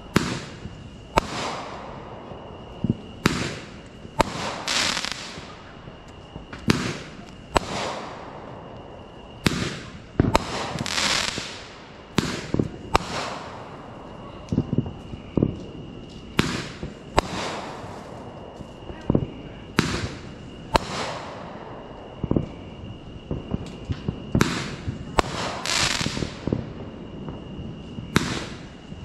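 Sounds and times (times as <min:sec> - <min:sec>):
fireworks bangs: 0:00.0 - 0:29.0
fireworks crackling hiss: 0:00.0 - 0:29.0.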